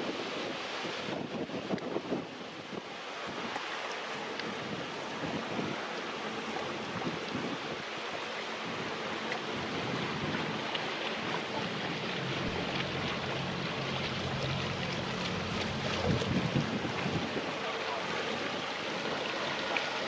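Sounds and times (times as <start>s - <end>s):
boat engine hum: 0.0s - 20.0s
river water: 0.0s - 20.0s
wind: 0.0s - 20.0s.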